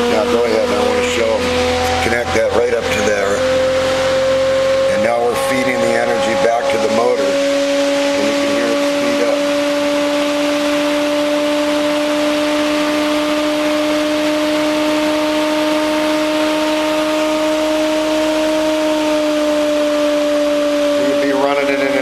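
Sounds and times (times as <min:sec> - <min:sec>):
electric motor humming: 0:00.0 - 0:22.0.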